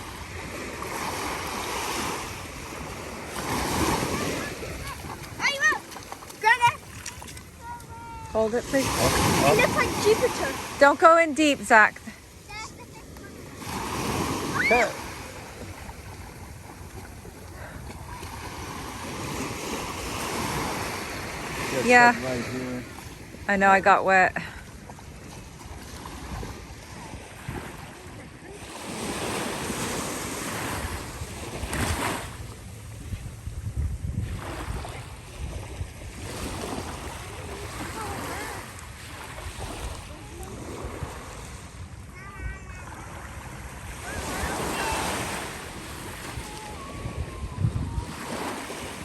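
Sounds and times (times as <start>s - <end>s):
ocean surf washing onto beach: 0.0s - 33.7s, 34.3s - 49.0s
wind buffeting microphone: 0.0s - 49.0s.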